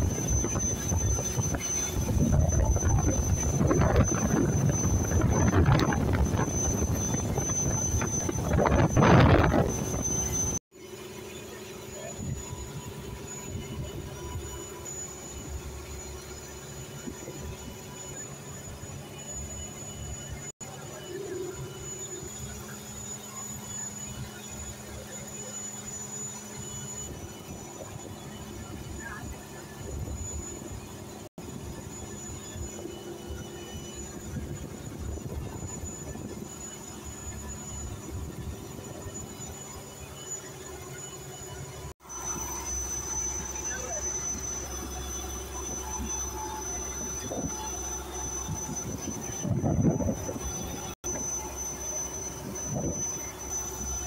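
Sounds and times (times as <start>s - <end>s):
boat engine droning: 0.0s - 54.0s
thin high whine: 0.0s - 54.0s.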